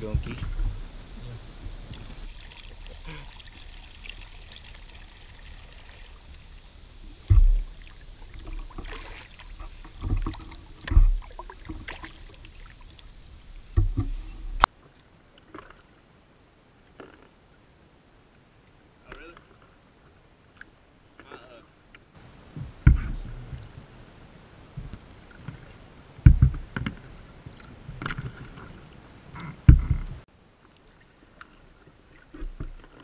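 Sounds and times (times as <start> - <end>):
low thumps of paddle and boat: 0.0 - 15.9, 20.5 - 33.0
paddle blades splashing: 0.0 - 33.0.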